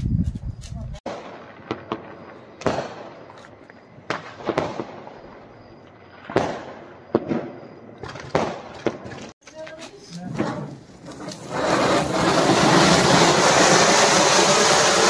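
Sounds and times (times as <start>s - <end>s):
firecrackers banging: 1.0s - 15.0s.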